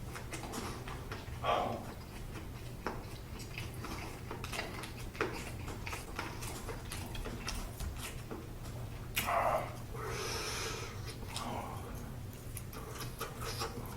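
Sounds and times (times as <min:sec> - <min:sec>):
chewing noodles: 0:00.0 - 0:13.9
low steady hum: 0:00.0 - 0:13.9.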